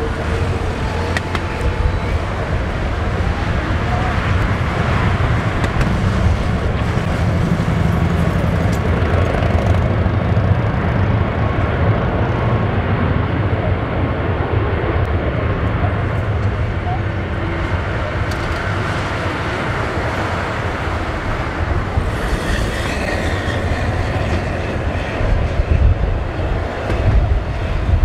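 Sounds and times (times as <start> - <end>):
jet engines at taxi power: 0.0 - 28.0.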